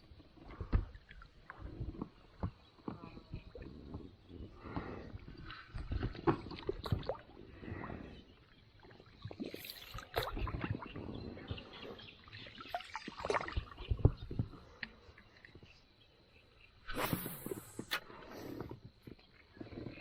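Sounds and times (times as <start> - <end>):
water splashing and gurgling: 0.0 - 15.8, 16.8 - 20.0.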